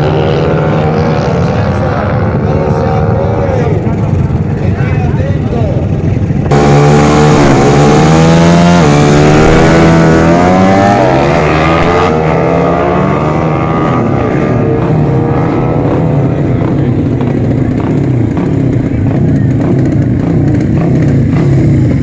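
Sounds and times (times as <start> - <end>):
racing motorcycle engine at full throttle: 0.0 - 22.0.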